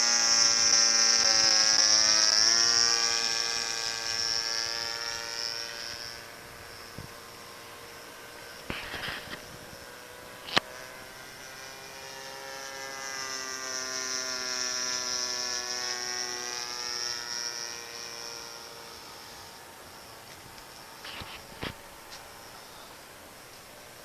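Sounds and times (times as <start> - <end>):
model plane engine droning: 0.0 - 24.0.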